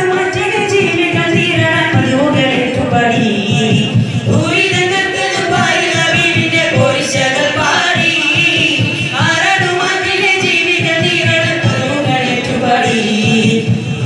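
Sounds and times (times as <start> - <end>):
boys singing through pa: 0.0 - 14.0.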